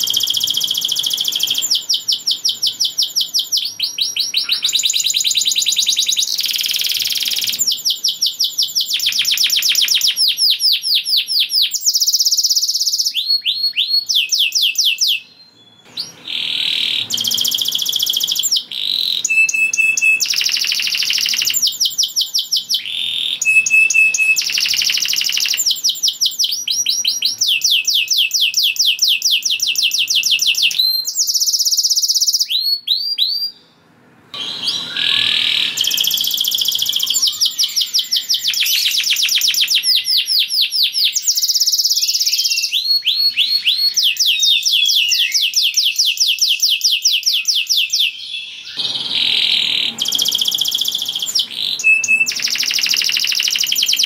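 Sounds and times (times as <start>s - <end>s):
canary singing trills: 0.0s - 33.7s, 34.4s - 54.0s.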